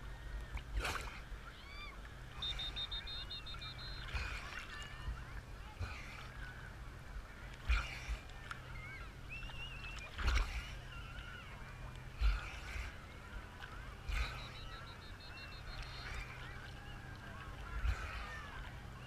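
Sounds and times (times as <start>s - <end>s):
distant voices shouting: 0.0s - 19.0s
small waves splashing: 0.0s - 19.0s.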